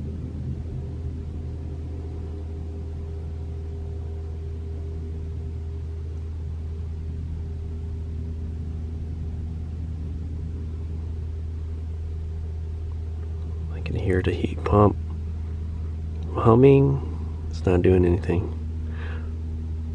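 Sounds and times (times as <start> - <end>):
faint steady tones: 0.0 - 19.9
heat pump humming: 0.0 - 19.9.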